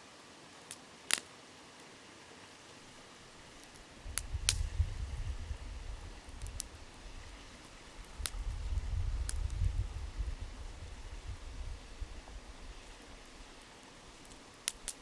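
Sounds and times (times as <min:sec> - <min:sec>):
river flowing: 0:00.0 - 0:15.0
wood fire crackling: 0:00.6 - 0:15.0.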